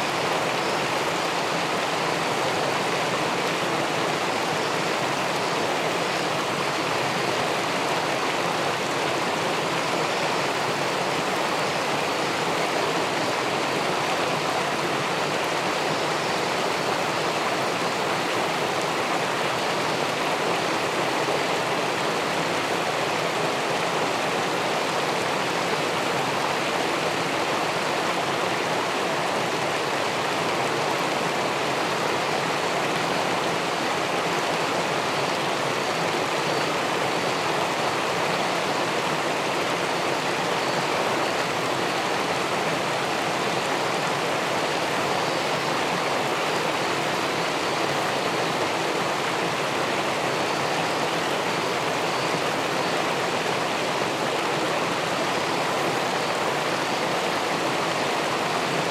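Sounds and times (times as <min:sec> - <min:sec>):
water rushing over weir: 0:00.0 - 0:58.9.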